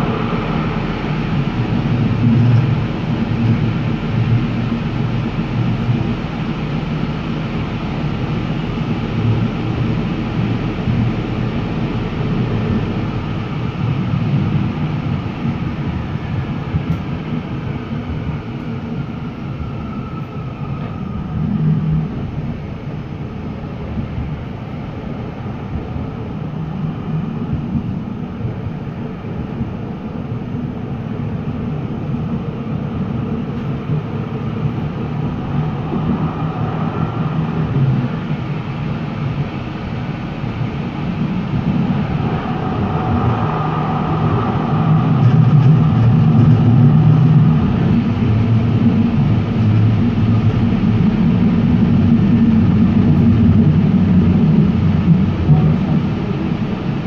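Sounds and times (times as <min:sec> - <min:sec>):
faint whine: 0:00.0 - 0:57.0
wheels rumbling on rails: 0:00.0 - 0:57.0.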